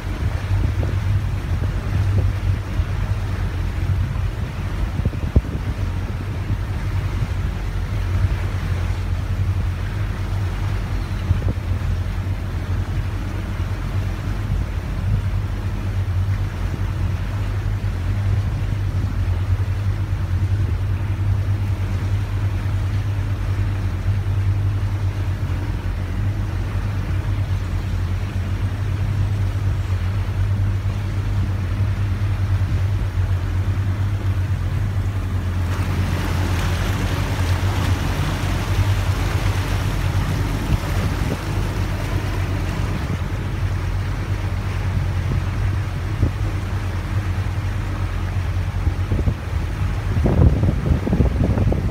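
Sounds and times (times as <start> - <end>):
boat engine droning: 0.0 - 51.9
water rushing along hull: 0.0 - 51.9
wind and spray hiss: 0.0 - 51.9.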